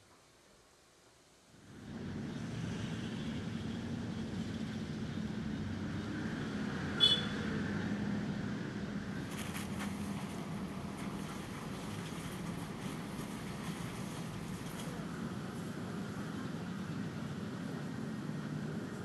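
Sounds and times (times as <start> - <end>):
road traffic hum: 1.4 - 19.0.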